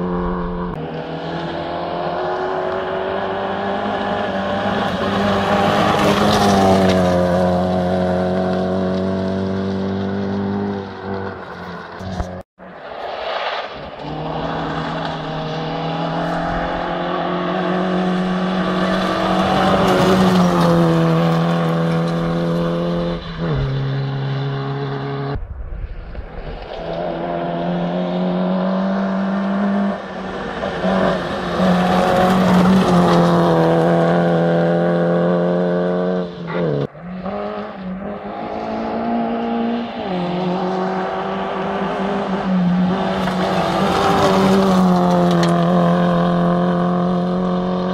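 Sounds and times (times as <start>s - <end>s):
rally car engines at high revs: 0.0s - 25.4s, 26.6s - 47.9s.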